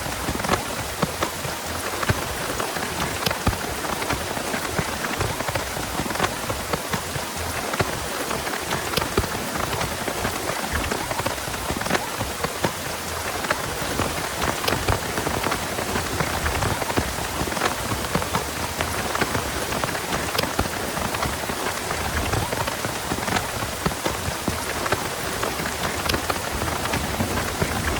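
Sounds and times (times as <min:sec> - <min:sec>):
heavy rain falling: 0:00.0 - 0:27.9
raindrops ticking: 0:00.0 - 0:27.9.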